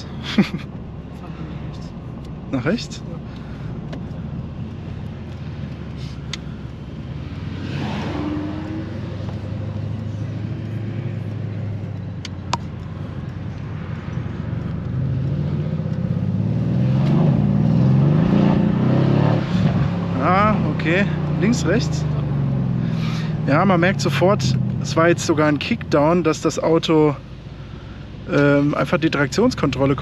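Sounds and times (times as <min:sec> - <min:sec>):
car engine heard from cabin: 0:00.0 - 0:30.0.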